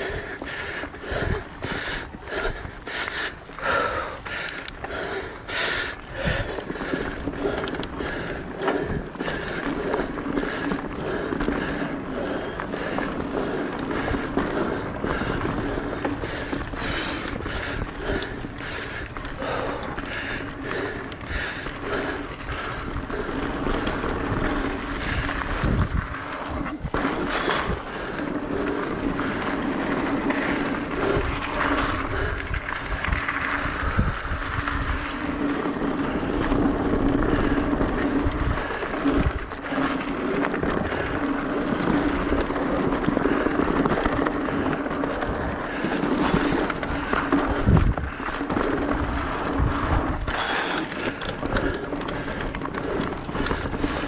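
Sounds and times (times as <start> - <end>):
bike tyres humming on dirt: 0.0 - 54.0
wind rushing over microphone: 6.1 - 54.0.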